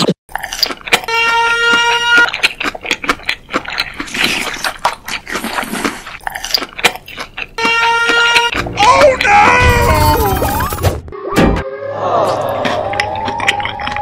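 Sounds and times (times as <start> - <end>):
crunching and chewing candy: 0.3 - 10.2, 12.3 - 14.0.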